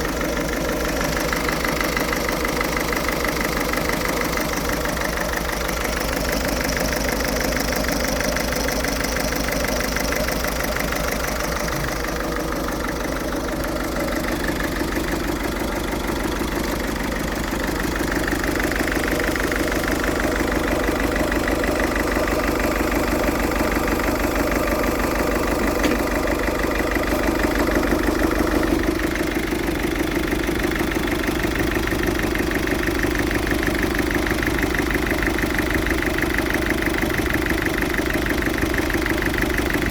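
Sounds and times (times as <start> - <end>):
diesel engine idling roughly: 0.0 - 39.9.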